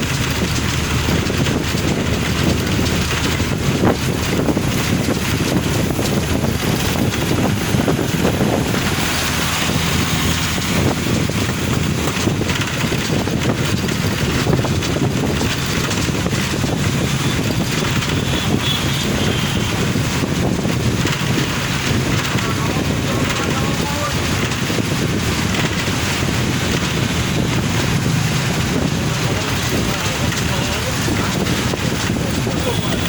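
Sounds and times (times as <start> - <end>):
car driving on wet road: 0.0 - 33.0.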